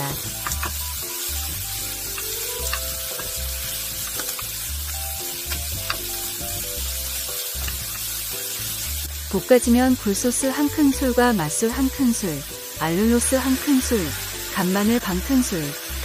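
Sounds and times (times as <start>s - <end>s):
soft background music: 0.0s - 16.0s
vegetables sizzling in pan: 0.0s - 16.0s.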